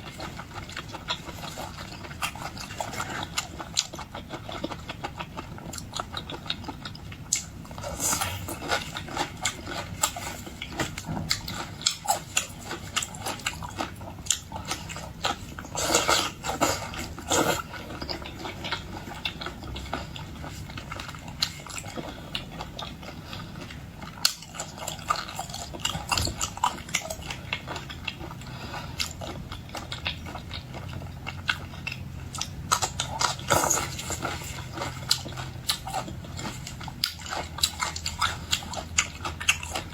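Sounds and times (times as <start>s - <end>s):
crunches of eating: 0.0s - 39.9s
mouth chewing and smacking: 0.0s - 39.9s.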